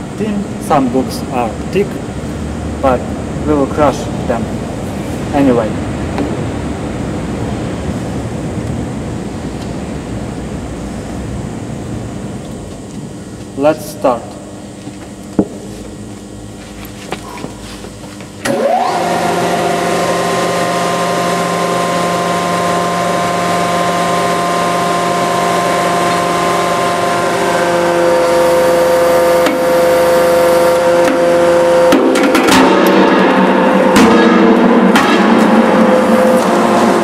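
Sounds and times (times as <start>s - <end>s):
hydraulic press pump motor humming: 0.0s - 37.0s.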